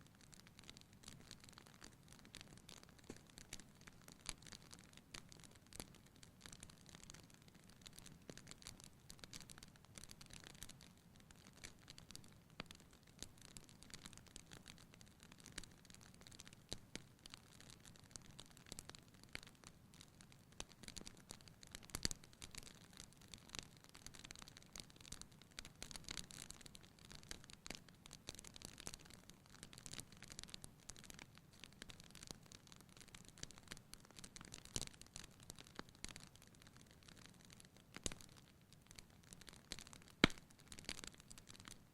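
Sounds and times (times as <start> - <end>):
wood fire crackling: 0.0 - 41.9
fire popping: 0.1 - 41.9.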